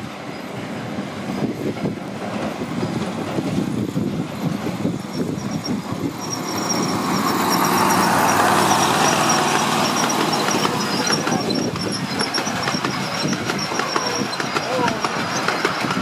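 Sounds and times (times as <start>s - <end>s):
wheels clicking over rail joints: 1.4s - 16.0s
miniature locomotive engine running: 3.0s - 16.0s.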